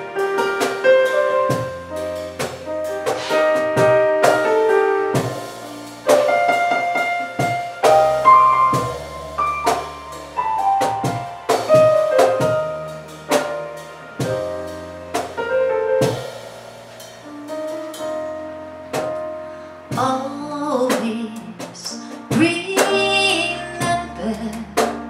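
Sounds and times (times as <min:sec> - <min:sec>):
piano playing chords: 0:00.0 - 0:25.0
low bass notes: 0:01.0 - 0:06.3, 0:07.1 - 0:25.0.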